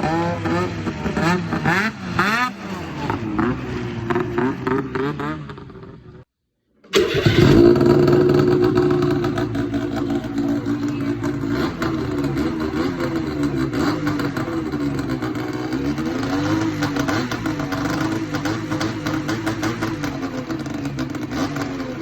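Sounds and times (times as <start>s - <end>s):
snowmobile engine revving: 0.0s - 6.0s, 6.9s - 22.0s.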